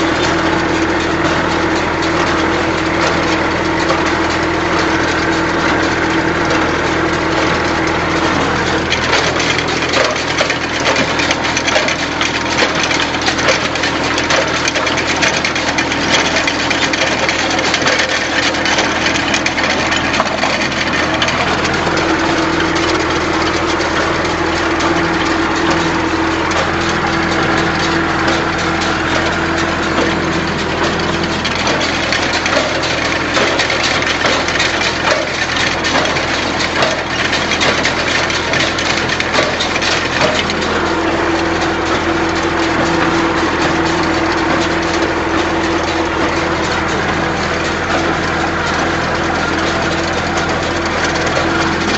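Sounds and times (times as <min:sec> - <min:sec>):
baler clattering: 0:00.0 - 0:51.9
tractor engine running: 0:00.0 - 0:51.9.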